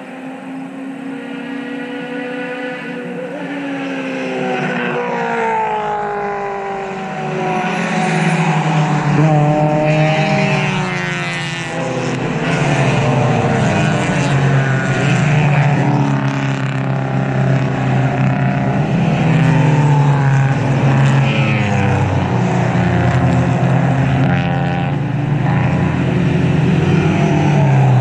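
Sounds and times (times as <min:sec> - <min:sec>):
race cars passing at high revs: 0:00.0 - 0:28.0.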